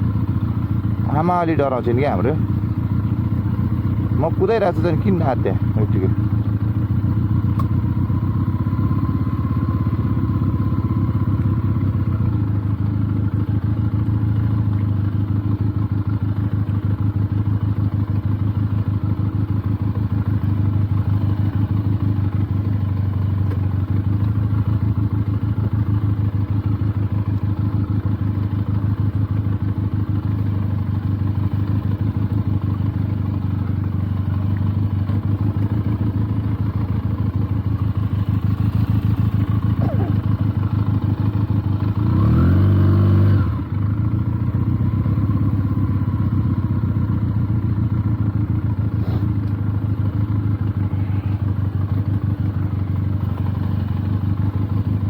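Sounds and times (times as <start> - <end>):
motorcycle engine running at low revs: 0.0 - 55.0.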